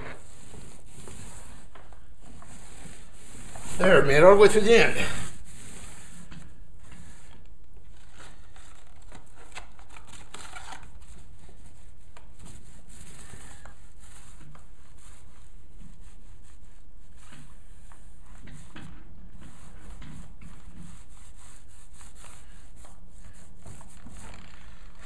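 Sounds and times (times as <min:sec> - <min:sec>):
paint roller crackling: 0:00.0 - 0:25.0.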